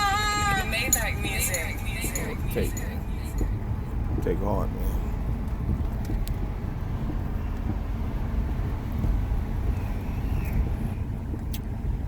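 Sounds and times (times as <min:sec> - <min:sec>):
car driving rumble inside cabin: 0:00.0 - 0:12.0.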